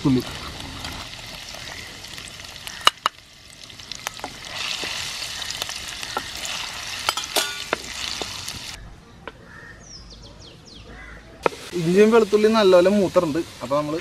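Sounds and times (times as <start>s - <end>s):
garlic sizzling in hot oil: 0.0s - 8.8s, 11.4s - 14.0s.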